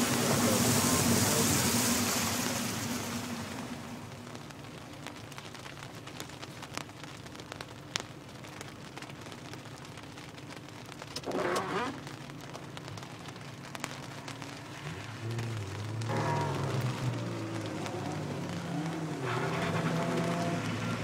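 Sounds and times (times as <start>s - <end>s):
rain on car roof: 0.0s - 21.0s.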